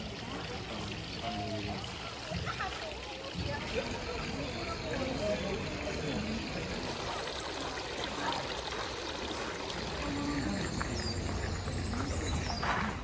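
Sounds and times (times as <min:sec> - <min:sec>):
water trickling into stone basin: 0:00.0 - 0:13.0.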